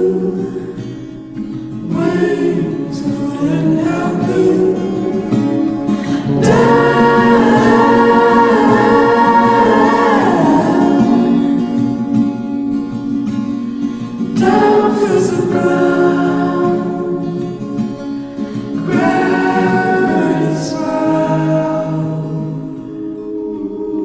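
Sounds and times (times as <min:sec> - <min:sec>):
music with singing voices: 0:00.0 - 0:24.0.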